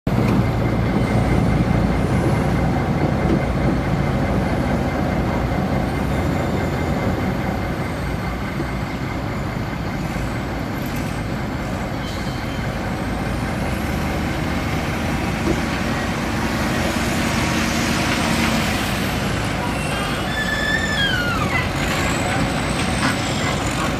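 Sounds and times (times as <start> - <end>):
diesel engine rumbling: 0.1 - 23.9.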